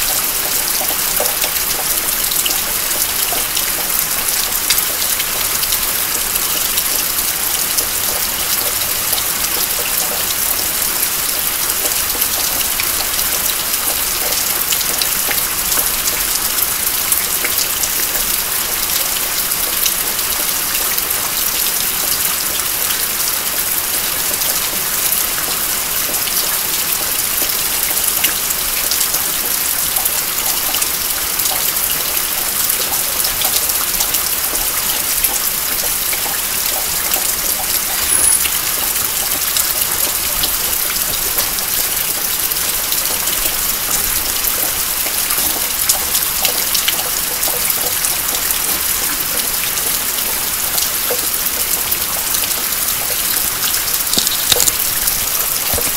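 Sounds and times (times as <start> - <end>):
rain drops ticking: 0.0 - 55.9.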